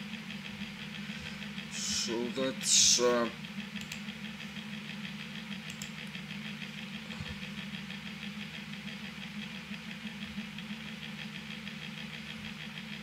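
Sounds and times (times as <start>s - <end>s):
pulsing machine hum: 0.0s - 13.0s.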